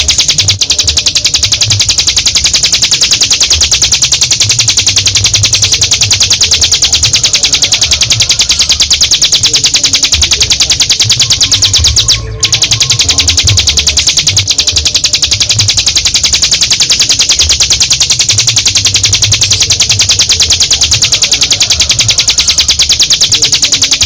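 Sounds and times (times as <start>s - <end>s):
bird singing rattling trill: 0.0s - 24.0s.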